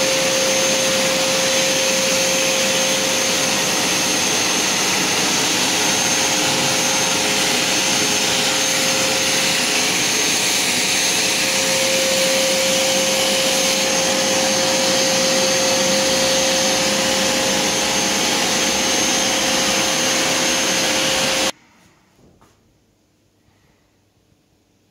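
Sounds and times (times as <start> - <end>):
vacuum cleaner running: 0.0 - 21.6.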